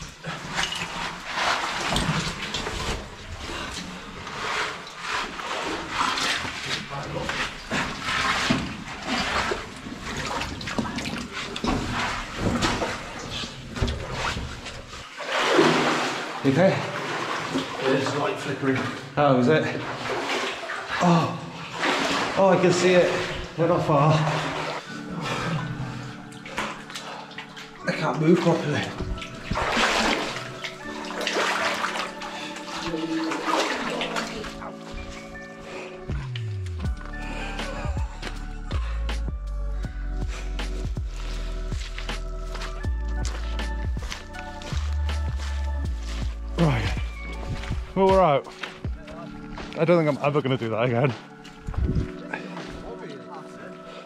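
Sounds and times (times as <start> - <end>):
water sloshing and splashing: 0.0 - 38.5, 40.6 - 54.0
person wading through water: 0.0 - 39.0, 40.4 - 54.0.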